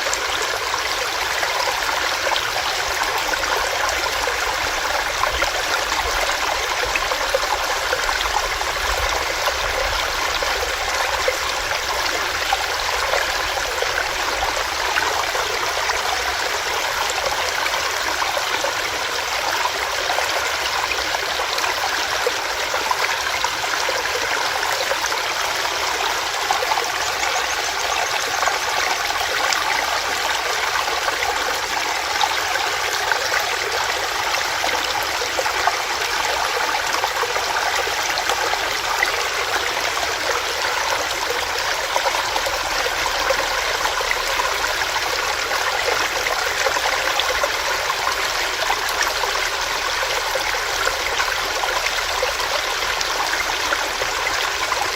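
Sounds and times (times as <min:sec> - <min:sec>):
stream running over rocks: 0:00.0 - 0:54.9.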